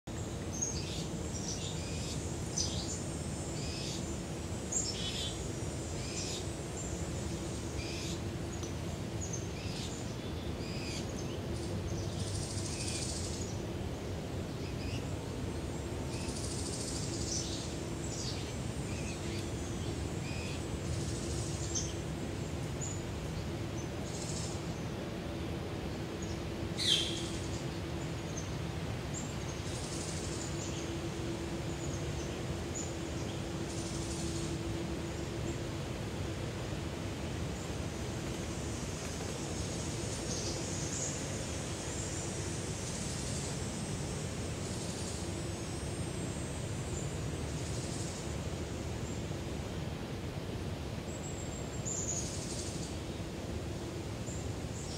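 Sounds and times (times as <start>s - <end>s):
steady low hum: 0.1s - 54.9s.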